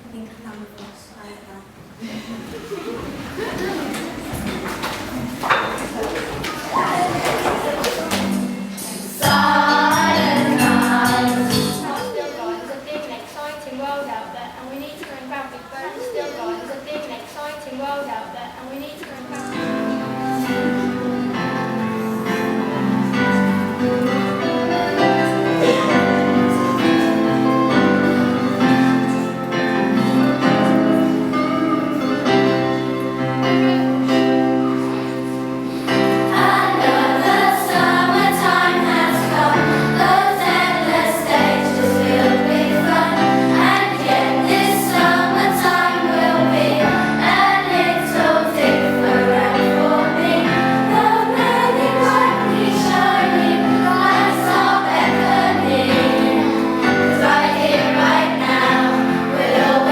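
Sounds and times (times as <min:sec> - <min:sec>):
children's choir singing: 0:02.4 - 0:14.3, 0:15.0 - 0:59.9.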